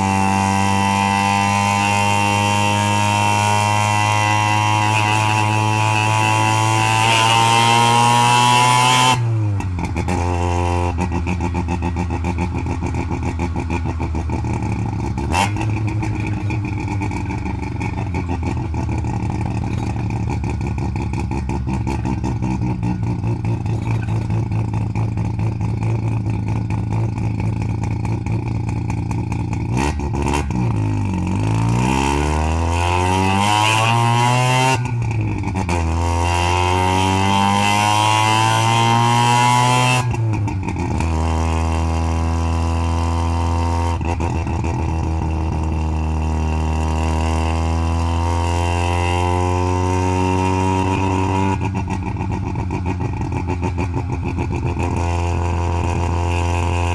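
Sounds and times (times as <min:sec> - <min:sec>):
rotary engine revving and idling: 0:00.0 - 0:56.9.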